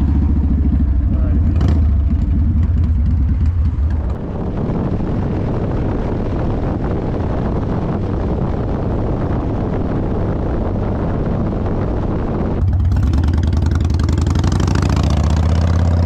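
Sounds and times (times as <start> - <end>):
motorcycle engine: 0.0 - 16.0
road noise: 0.0 - 16.0
wind rushing on microphone: 0.0 - 16.0.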